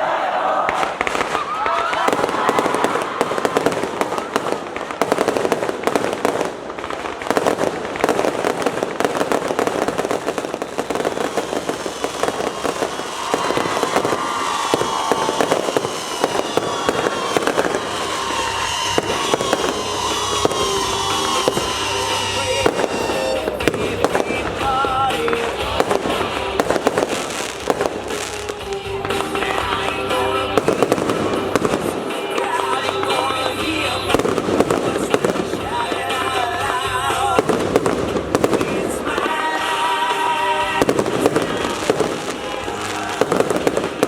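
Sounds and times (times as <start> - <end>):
fireworks crackling and popping: 0.6 - 44.0
music playing: 7.3 - 44.0.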